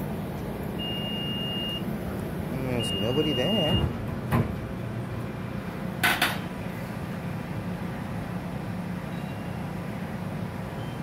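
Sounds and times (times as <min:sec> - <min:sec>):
train car low hum: 0:00.0 - 0:11.0.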